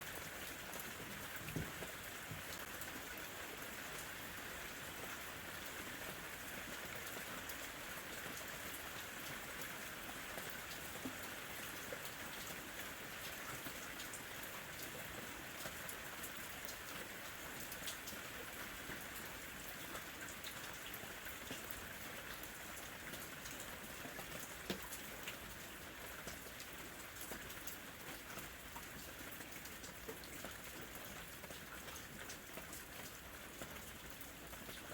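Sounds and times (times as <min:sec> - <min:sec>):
light rain falling: 0:00.0 - 0:34.9.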